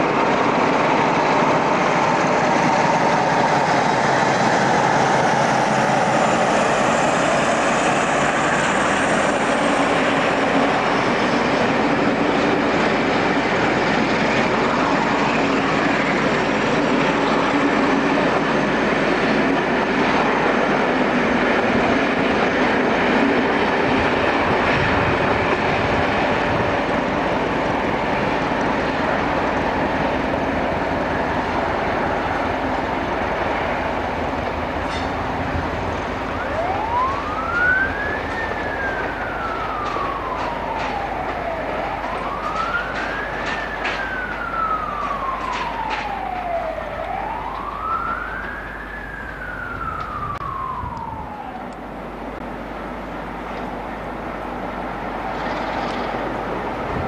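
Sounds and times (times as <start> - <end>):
emergency vehicle siren wailing: 0.0 - 52.5, 53.6 - 57.0
train running over track: 0.0 - 57.0.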